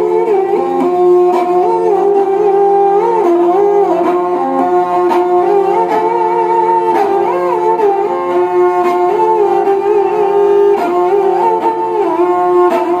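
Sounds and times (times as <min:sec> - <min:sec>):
bowed folk lute melody with drone: 0:00.0 - 0:13.0.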